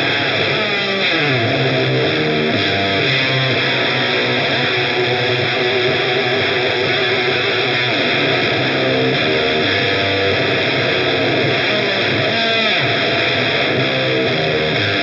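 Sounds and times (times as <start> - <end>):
fuzz electric guitar sliding notes: 0.0 - 15.0.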